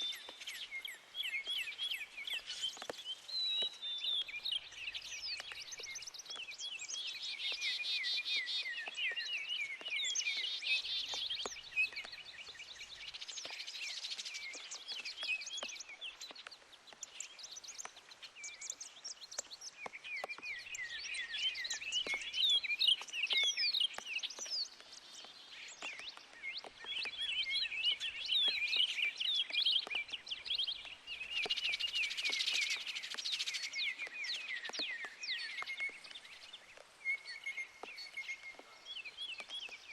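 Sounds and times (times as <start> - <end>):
rain: 0.0 - 39.9
songbirds chirping and trilling: 0.0 - 39.9
water drips ticking: 2.2 - 39.9.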